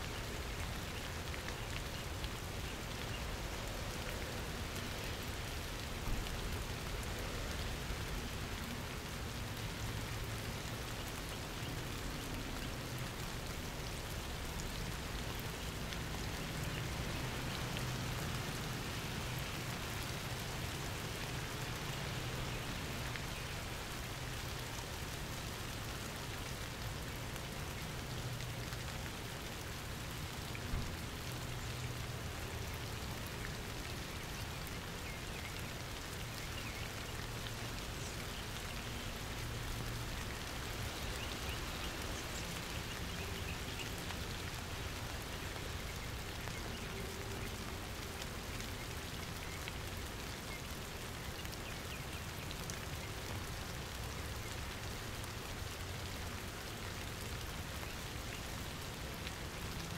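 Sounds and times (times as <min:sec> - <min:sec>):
rain pattering: 0:00.0 - 0:59.9
water drips: 0:00.0 - 0:59.9.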